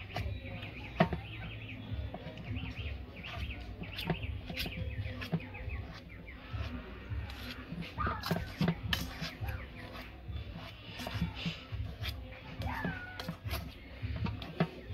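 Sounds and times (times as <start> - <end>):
birds chirping: 0.0 - 14.9
fork scraping a metal bowl: 0.0 - 14.9.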